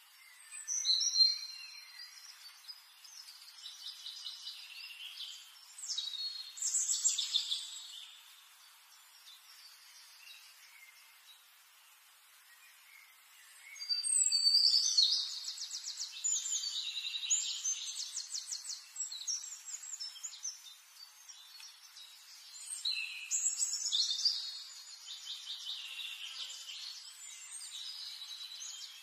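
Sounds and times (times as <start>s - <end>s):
finches singing and chirping: 0.0s - 29.0s.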